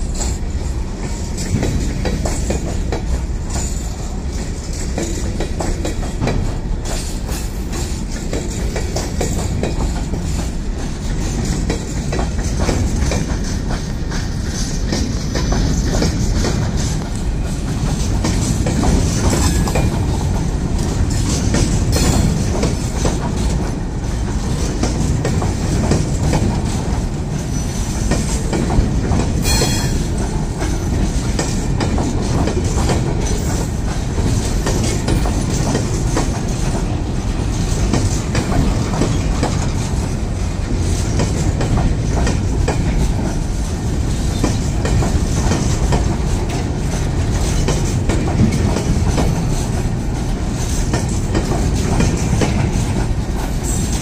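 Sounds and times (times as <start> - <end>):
freight train wagons rolling past: 0.0 - 54.0
train wheel clicks: 0.0 - 54.0.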